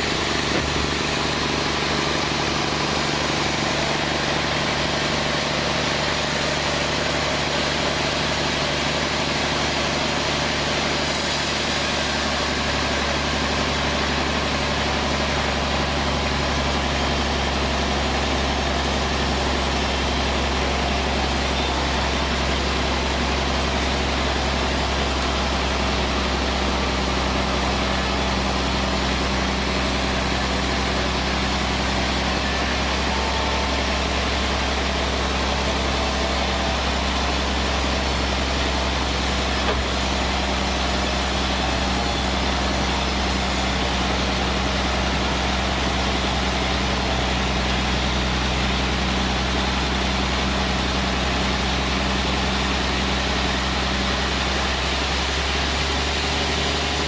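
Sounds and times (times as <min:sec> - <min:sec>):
sawmill engine drone: 0:00.0 - 0:57.0.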